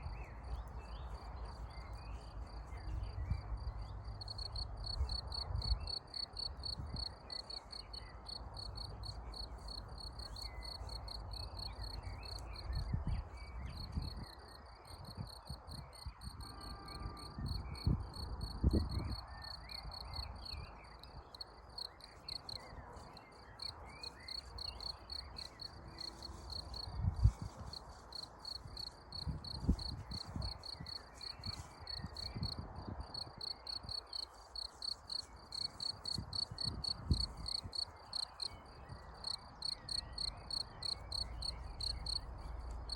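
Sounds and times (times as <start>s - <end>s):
cricket chirping: 3.5s - 12.9s, 13.7s - 22.7s, 23.4s - 42.9s.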